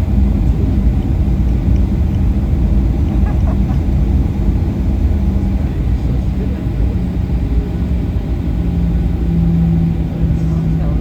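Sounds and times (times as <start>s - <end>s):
airplane cabin rumble: 0.0s - 11.0s
jet engines idling: 0.0s - 11.0s.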